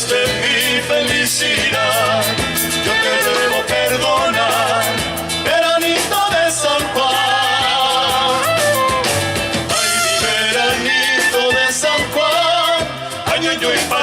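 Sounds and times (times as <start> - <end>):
latin band music: 0.0 - 14.0.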